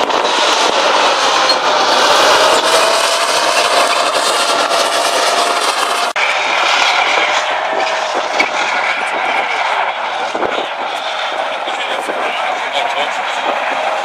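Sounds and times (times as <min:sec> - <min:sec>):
tank diesel engine running: 0:00.0 - 0:14.0.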